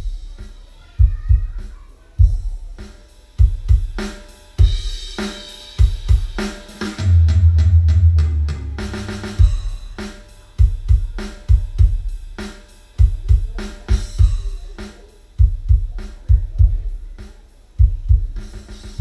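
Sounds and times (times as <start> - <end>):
deep bass-drum thumps: 0.0 - 5.2, 5.8 - 14.8, 15.4 - 17.2, 17.8 - 19.0
drum-heavy music: 0.0 - 19.0.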